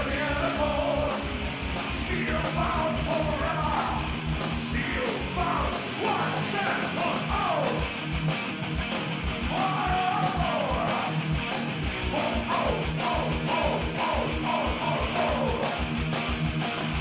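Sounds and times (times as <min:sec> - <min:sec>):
distorted electric guitar lead: 0:00.0 - 0:17.0
driving kick drum beat: 0:00.0 - 0:17.0
metal band playing live: 0:00.0 - 0:17.0.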